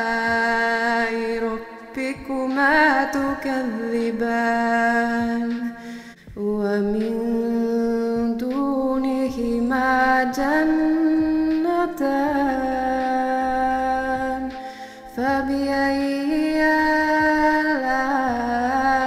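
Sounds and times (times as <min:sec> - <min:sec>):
person chanting recitation: 0:00.0 - 0:05.8, 0:06.4 - 0:19.0.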